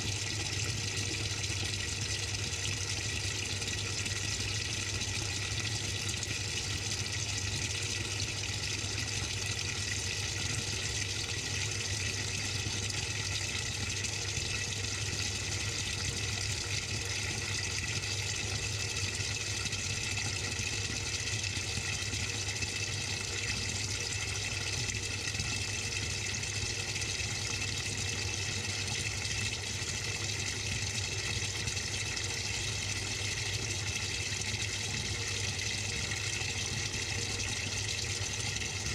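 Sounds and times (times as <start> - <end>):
washing machine filling with water: 0.0 - 38.9.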